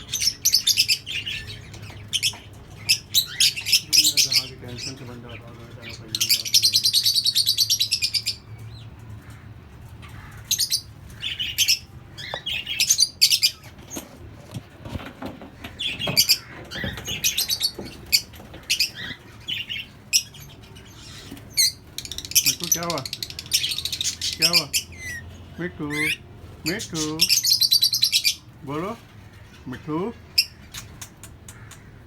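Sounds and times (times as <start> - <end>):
parrots chirping and chattering: 0.0 - 32.0.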